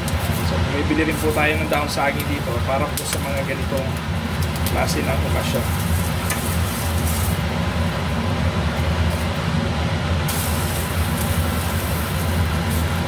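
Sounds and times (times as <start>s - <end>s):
leaf steaming and hissing on stovetop: 0.0s - 13.0s.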